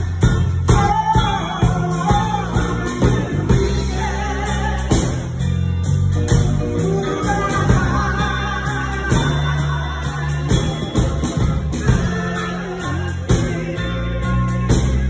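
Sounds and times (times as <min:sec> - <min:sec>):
woman singing gospel: 0:00.0 - 0:05.6, 0:06.3 - 0:15.0
accompaniment with bass and beat: 0:00.0 - 0:15.0.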